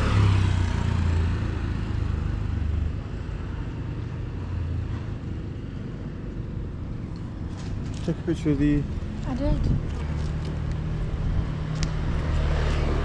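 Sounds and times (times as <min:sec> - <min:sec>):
motor vehicle engine rumbling: 0:00.0 - 0:13.0.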